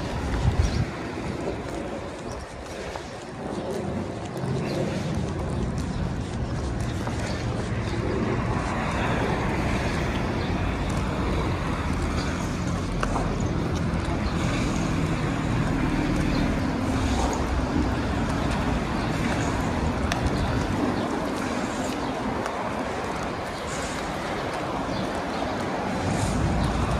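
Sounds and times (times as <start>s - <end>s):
passing cars and road noise: 0.0s - 26.9s.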